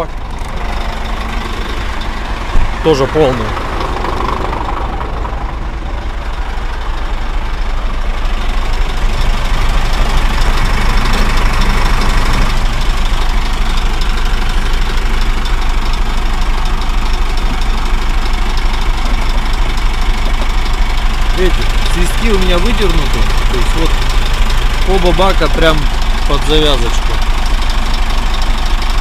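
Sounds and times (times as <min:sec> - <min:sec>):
truck diesel engine idling: 0:00.0 - 0:29.0.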